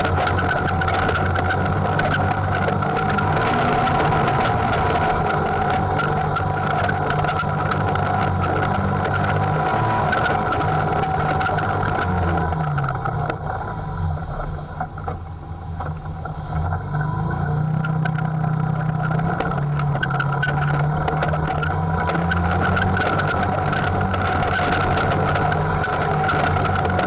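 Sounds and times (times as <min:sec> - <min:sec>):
clicks and rattles from rough ground: 0:00.0 - 0:27.0
utility vehicle engine: 0:00.0 - 0:27.0.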